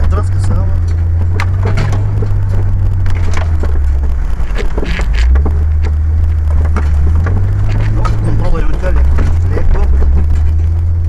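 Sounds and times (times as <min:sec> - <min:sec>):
off-road vehicle engine drone: 0:00.0 - 0:11.0.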